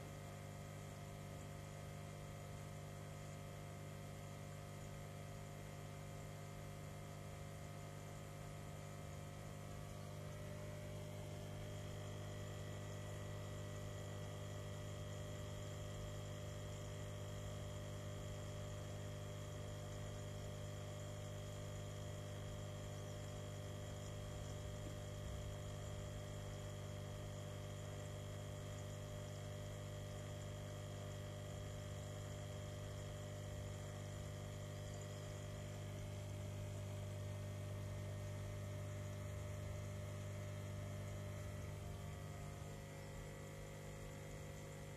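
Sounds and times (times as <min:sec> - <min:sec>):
aquarium pump humming: 0:00.0 - 0:44.9.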